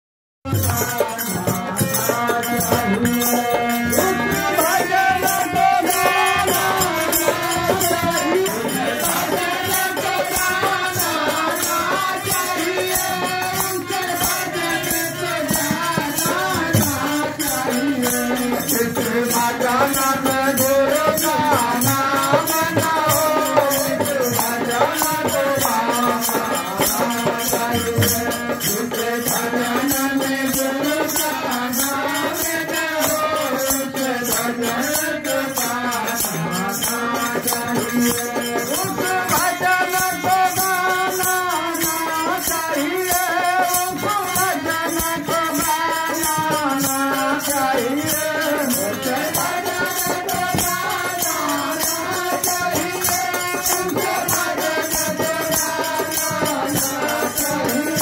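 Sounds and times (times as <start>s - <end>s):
man singing through microphone: 0.5s - 58.0s
shaken rattle percussion: 0.5s - 58.0s.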